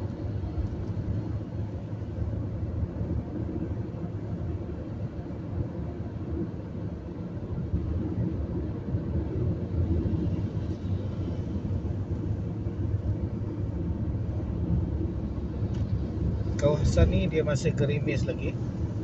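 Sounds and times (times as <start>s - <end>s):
tyres and engine rumble: 0.0s - 19.0s.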